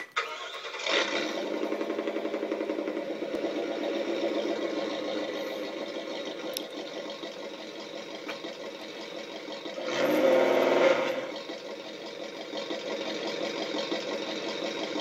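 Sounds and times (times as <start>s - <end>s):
simulated engine through speaker: 0.8s - 15.0s.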